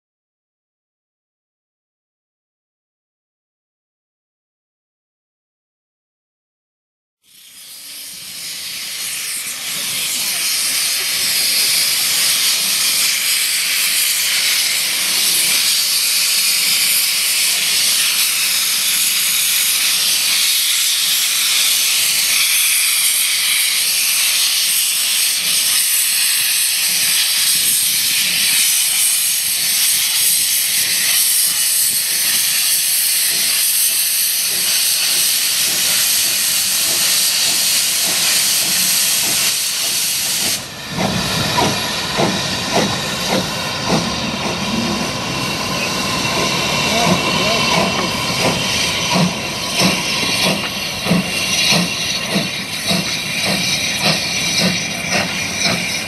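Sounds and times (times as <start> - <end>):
locomotive steam hiss: 7.3 - 56.0.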